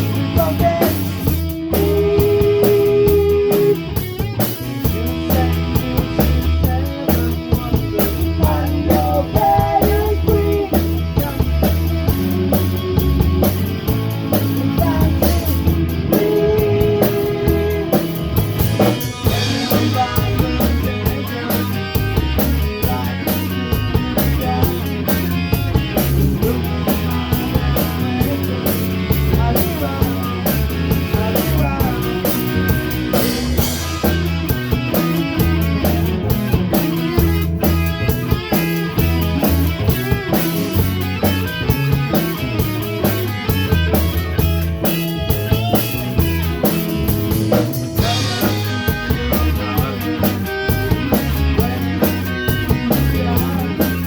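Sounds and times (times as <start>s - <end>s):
rock music with drums and guitars: 0.0s - 54.0s.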